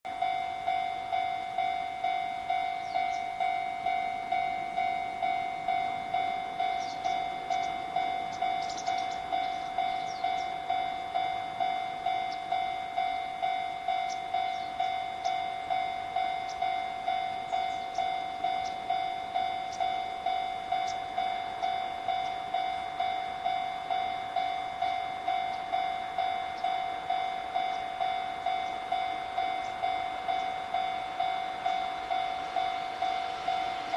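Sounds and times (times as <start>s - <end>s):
oncoming train: 0.0s - 33.9s
level crossing warning bell: 0.1s - 33.9s.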